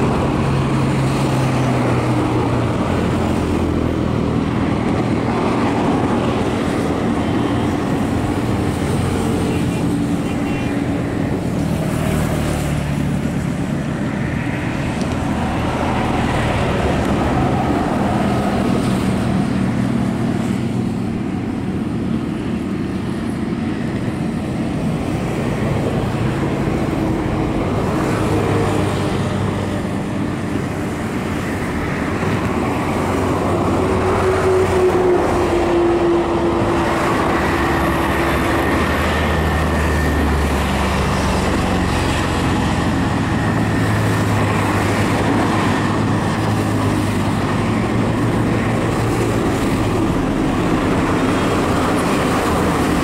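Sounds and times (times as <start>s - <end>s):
road traffic passing on bridge: 0.0s - 53.0s.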